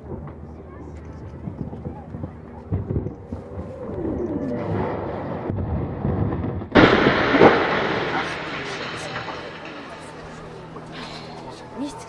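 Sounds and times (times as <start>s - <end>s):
chimney collapsing rumble: 1.2s - 11.9s.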